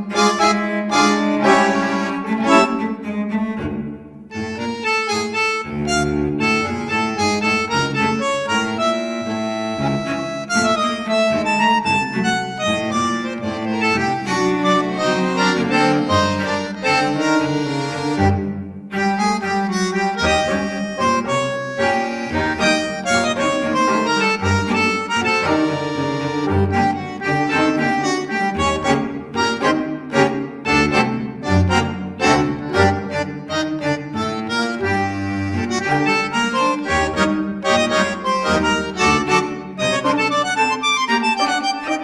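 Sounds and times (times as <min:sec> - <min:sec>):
instrumental melody over bass line: 0:00.0 - 0:42.0.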